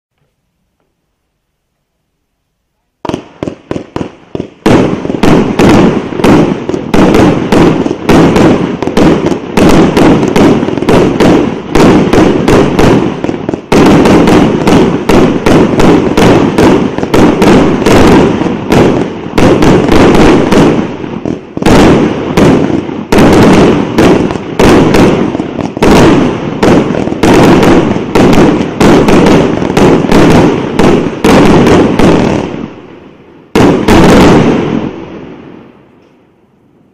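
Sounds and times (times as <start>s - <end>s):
fireworks barrage of bangs: 3.0s - 36.3s.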